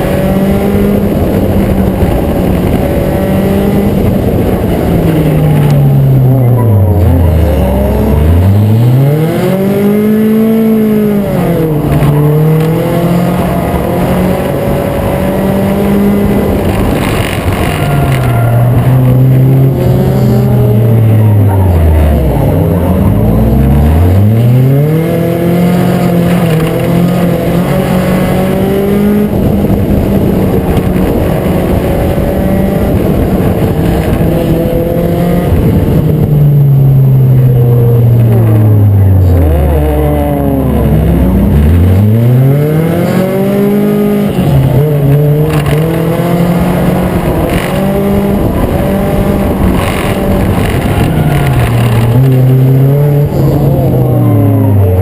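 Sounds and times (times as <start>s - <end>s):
other race engines: 0.0s - 55.0s
race car engine revving: 0.0s - 55.0s.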